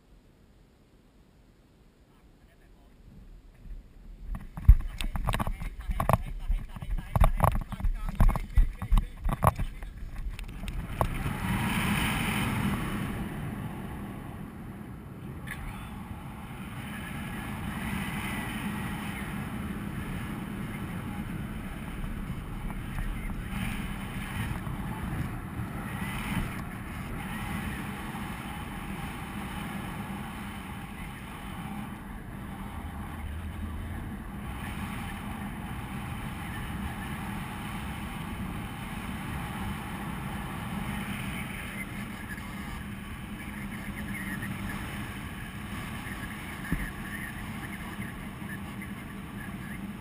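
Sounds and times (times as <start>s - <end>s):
wind buffeting microphone: 3.1s - 50.0s.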